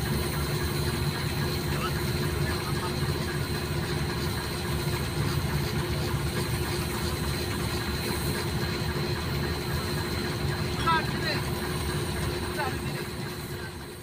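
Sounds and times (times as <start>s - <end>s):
heavy diesel engine idling: 0.0s - 14.0s.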